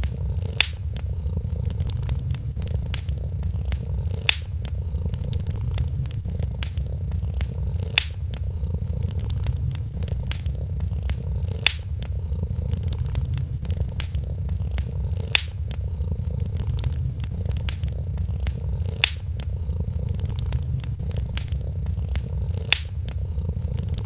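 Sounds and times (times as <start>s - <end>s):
cat purring: 0.0s - 24.0s
wood fire crackling: 0.0s - 24.0s.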